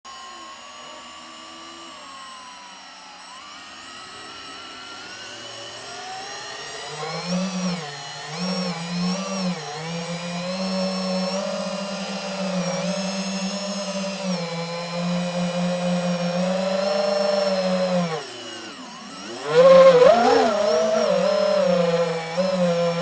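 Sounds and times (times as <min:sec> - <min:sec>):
quadcopter motors whining: 0:00.1 - 0:23.0.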